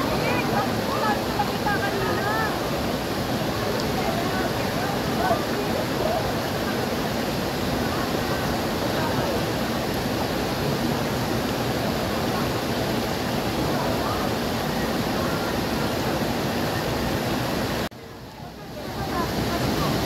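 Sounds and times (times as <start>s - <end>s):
river water rushing over rocks: 0.0s - 20.0s
waterfall: 0.0s - 20.0s.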